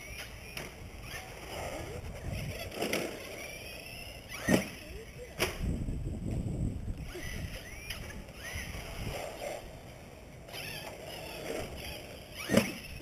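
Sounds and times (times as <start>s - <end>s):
toy truck electric motor whining: 0.0s - 5.8s, 6.9s - 13.0s.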